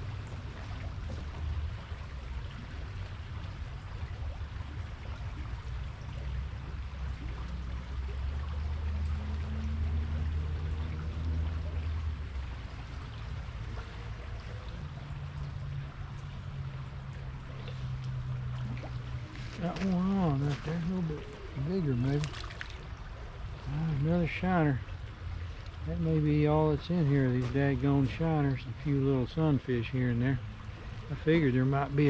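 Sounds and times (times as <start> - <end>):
creek water rushing: 0.0 - 32.0
low steady hum: 0.0 - 32.0.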